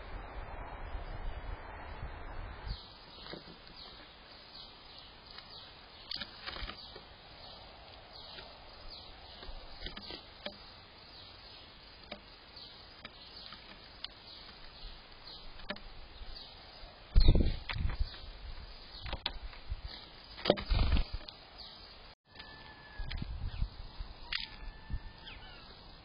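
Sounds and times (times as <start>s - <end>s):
sparrows chirping: 2.7s - 26.0s.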